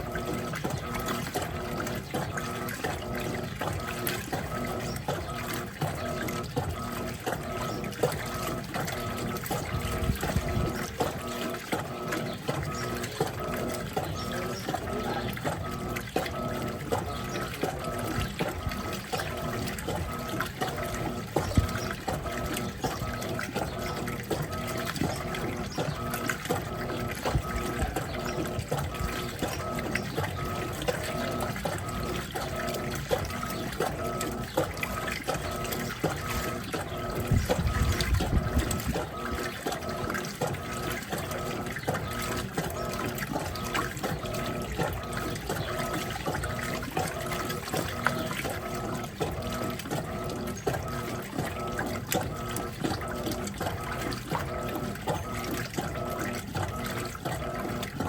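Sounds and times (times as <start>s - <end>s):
washing machine agitator swishing: 0.0s - 58.0s
washing machine motor whirring: 0.0s - 58.0s
water sloshing: 0.0s - 58.0s.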